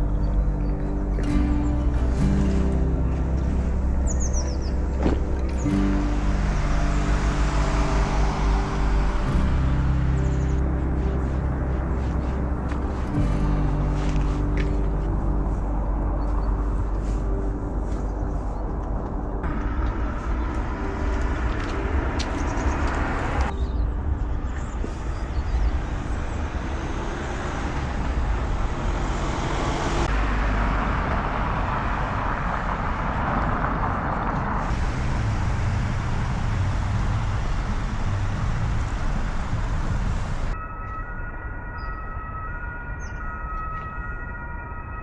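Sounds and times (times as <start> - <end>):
cars passing on street: 0.0 - 23.6, 24.9 - 40.6.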